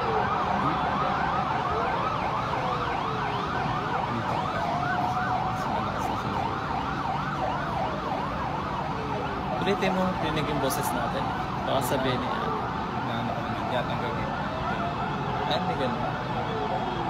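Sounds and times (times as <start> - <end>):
distant sirens yelping: 0.0 - 17.0
siren wail: 0.0 - 17.0.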